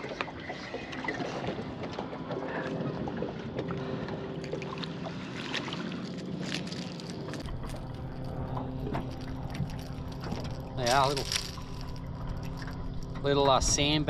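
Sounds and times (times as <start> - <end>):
water noise: 0.0 - 14.0
faint steady hum: 2.0 - 14.0.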